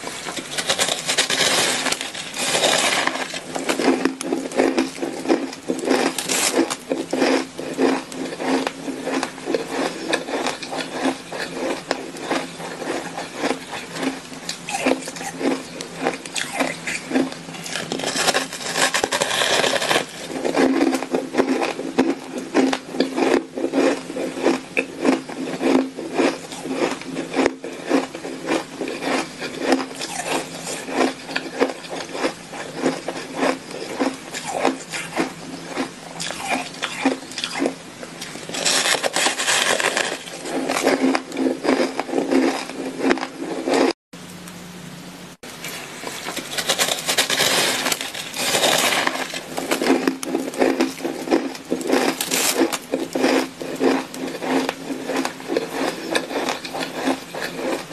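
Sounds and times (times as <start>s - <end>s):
chewing shaved ice crunching: 0.0s - 44.0s, 45.6s - 57.9s.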